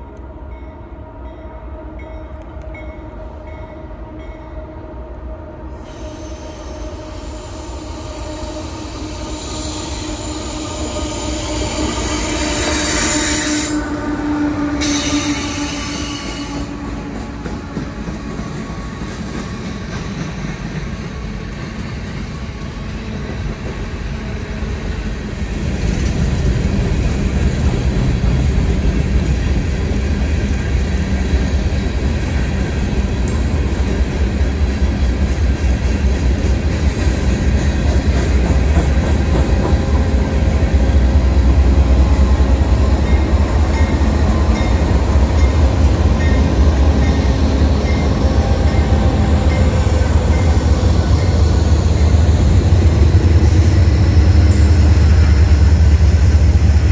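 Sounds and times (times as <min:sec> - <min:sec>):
diesel locomotives passing: 0:00.0 - 0:56.9
rumble of rolling railcars: 0:00.0 - 0:56.9.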